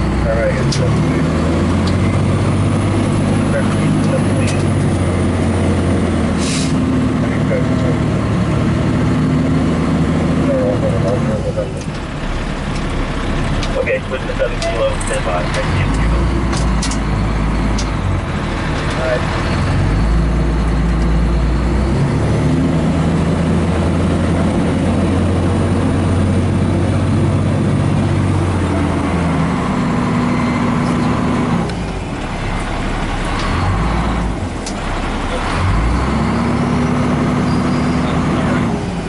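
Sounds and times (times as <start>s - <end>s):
diesel engine accelerating: 0.0s - 39.0s.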